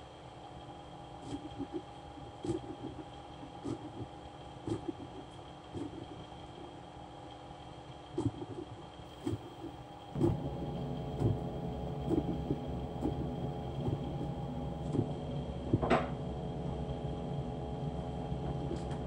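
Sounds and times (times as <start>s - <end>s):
electric machine hum: 0.0s - 19.0s.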